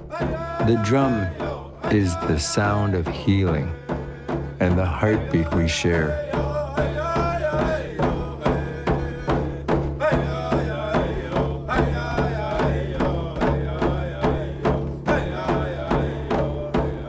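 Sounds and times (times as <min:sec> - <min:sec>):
drum beating a steady pulse: 0:00.0 - 0:17.0
voices chanting a melody: 0:00.0 - 0:17.0.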